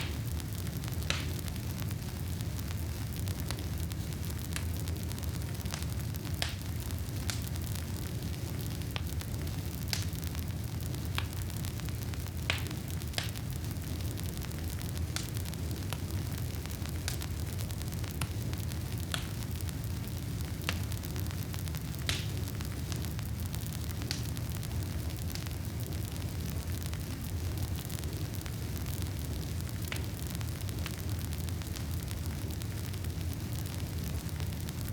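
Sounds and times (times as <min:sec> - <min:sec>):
campfire flames roaring: 0:00.0 - 0:34.9
wood crackling and popping: 0:00.0 - 0:34.9.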